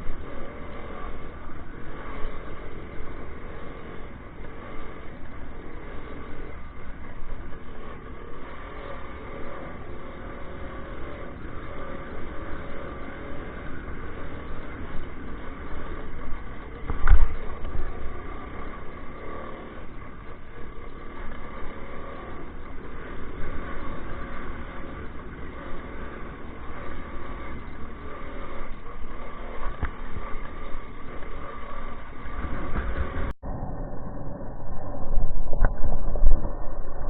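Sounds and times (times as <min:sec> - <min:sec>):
motorcycle engine running: 0:00.0 - 0:33.4.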